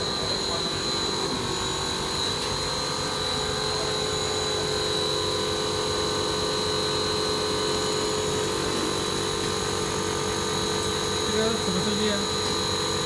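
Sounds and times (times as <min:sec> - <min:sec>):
machine drone with high whine: 0:00.0 - 0:13.0.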